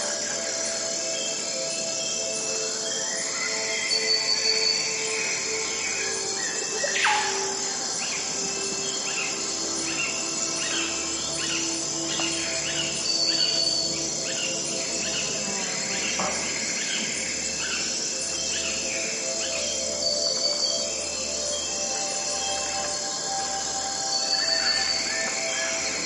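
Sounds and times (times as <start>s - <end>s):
high insect trill: 0.0s - 26.0s.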